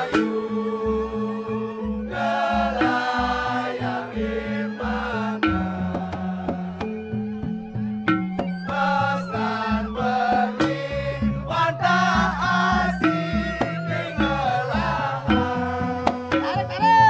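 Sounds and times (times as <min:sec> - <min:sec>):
bamboo gamelan melody: 0:00.0 - 0:17.0.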